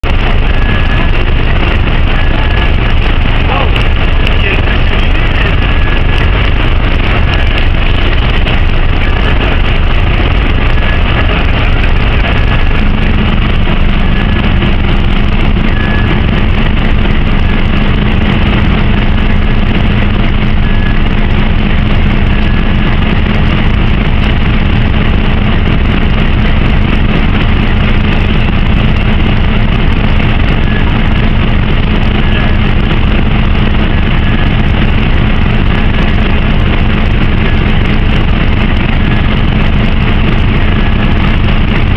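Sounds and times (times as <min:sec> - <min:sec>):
engine rumbling: 0:00.0 - 0:41.9
steady low hum: 0:00.0 - 0:41.9.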